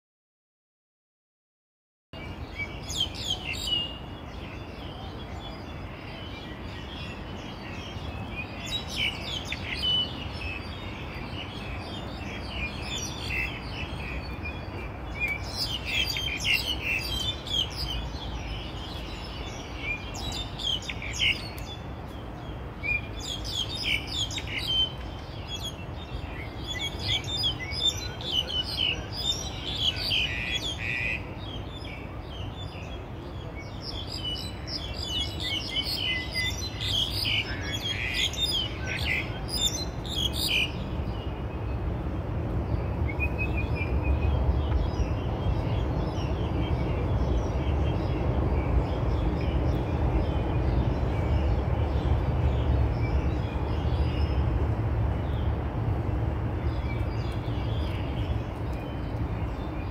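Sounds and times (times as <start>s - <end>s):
songbirds chirping: 2.2s - 59.9s.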